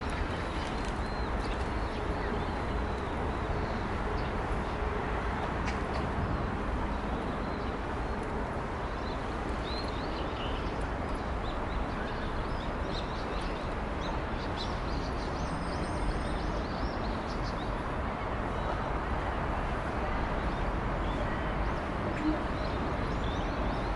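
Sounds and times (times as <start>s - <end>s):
outdoor background rush: 0.0s - 23.9s.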